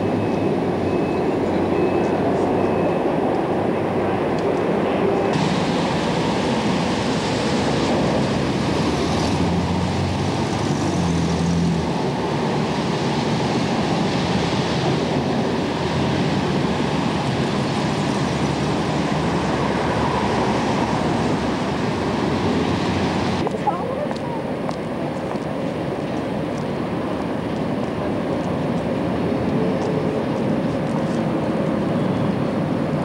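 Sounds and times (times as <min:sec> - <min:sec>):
city street traffic roar: 0:00.0 - 0:33.0.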